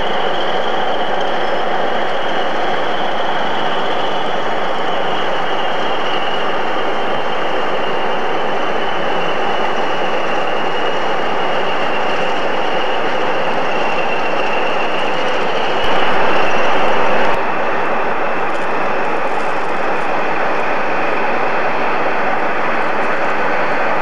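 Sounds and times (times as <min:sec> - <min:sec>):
diesel locomotives idling: 0:00.0 - 0:24.0.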